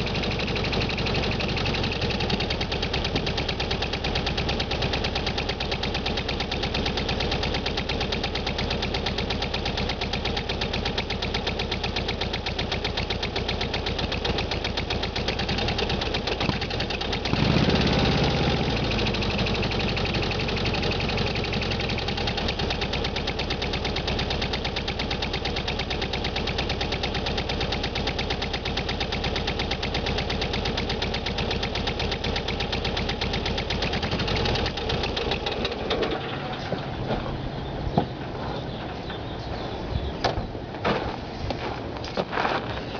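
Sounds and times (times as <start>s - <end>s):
car engine idling: 0.0s - 41.1s.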